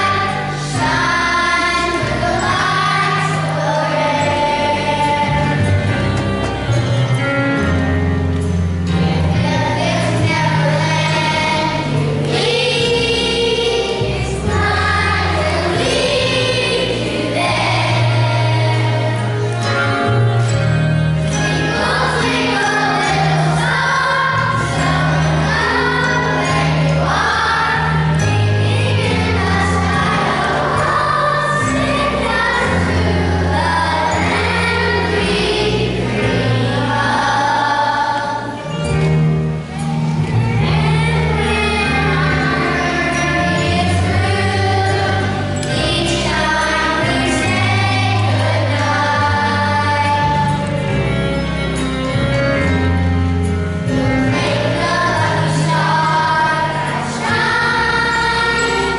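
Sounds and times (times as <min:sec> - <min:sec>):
children's choir singing: 0:00.0 - 0:58.9
sustained low instrumental chords: 0:00.0 - 0:58.9.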